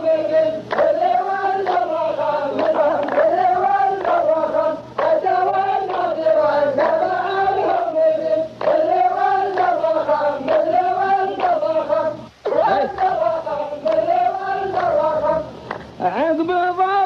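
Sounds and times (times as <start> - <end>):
male chorus chanting in unison: 0.0 - 17.0
handclaps on the beat: 0.3 - 7.9, 8.6 - 11.7, 12.6 - 15.9.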